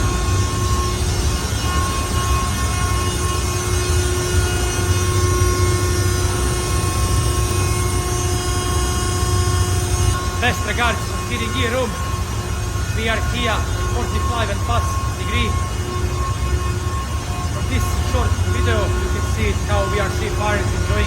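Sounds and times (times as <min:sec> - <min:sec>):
ship machinery rumbling: 0:00.0 - 0:21.0
steady whining tones: 0:00.0 - 0:21.0.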